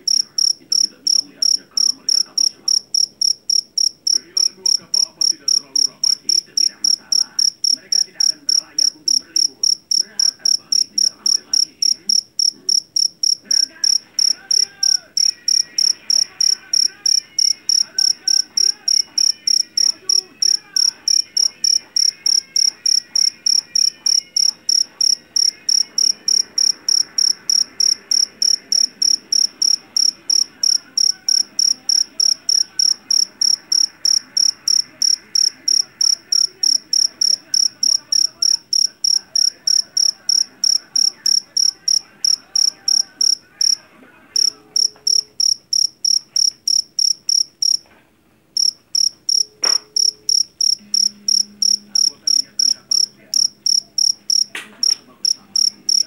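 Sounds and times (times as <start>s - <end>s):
cricket chirping shrilly: 0.0s - 47.9s, 48.6s - 56.0s.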